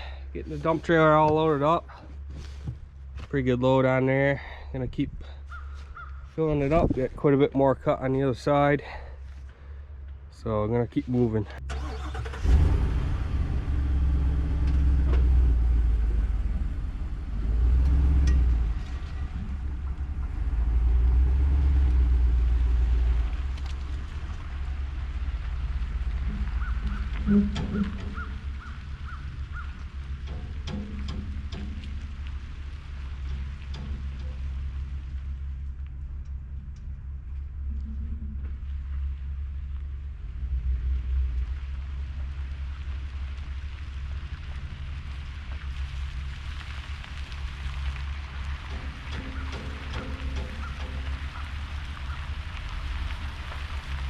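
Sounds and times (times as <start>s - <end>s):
pickup truck engine rumble: 0.0s - 54.0s.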